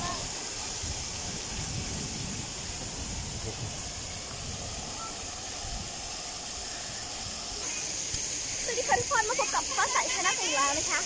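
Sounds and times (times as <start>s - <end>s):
fountain water splashing on paving: 0.0s - 11.0s.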